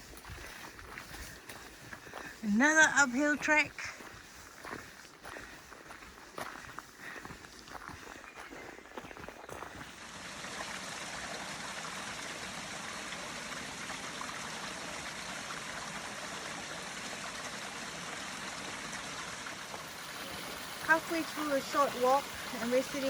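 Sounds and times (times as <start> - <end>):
stream flowing water: 0.0 - 23.0.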